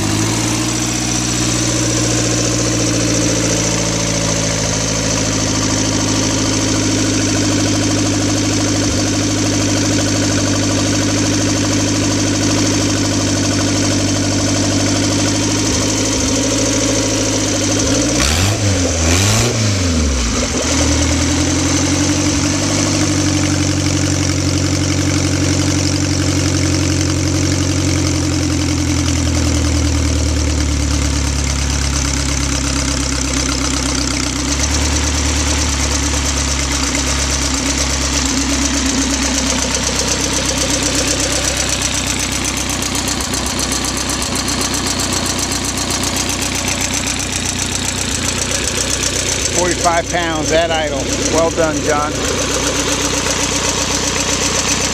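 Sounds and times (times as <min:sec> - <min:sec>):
motorcycle engine idling: 0:00.0 - 0:19.2, 0:20.0 - 0:54.9
engine revving: 0:00.0 - 0:54.9.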